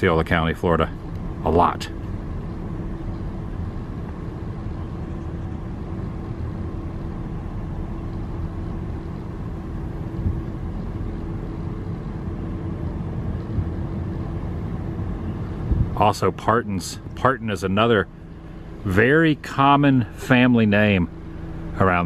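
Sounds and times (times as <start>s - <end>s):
car engine low rumble in cabin: 0.0s - 22.0s.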